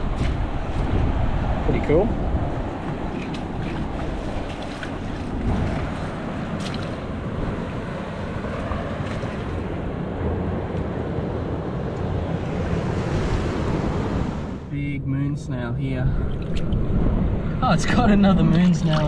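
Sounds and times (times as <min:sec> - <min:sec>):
wind on microphone: 0:00.0 - 0:14.7, 0:15.8 - 0:19.0
ocean surf: 0:00.0 - 0:19.0.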